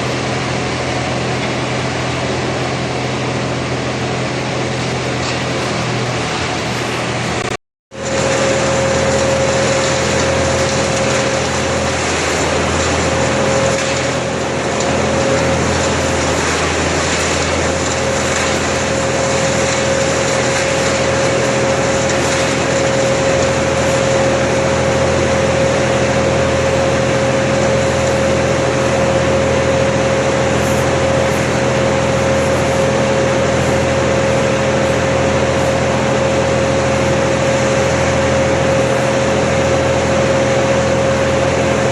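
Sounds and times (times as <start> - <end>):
machinery whining at high speed: 0.0 - 41.9.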